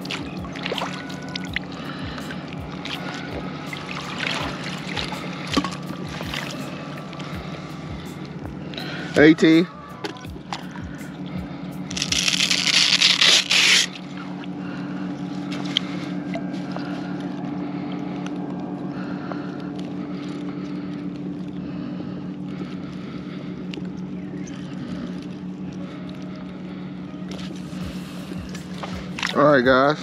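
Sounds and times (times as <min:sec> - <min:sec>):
motorboat engine droning: 0:00.0 - 0:30.0.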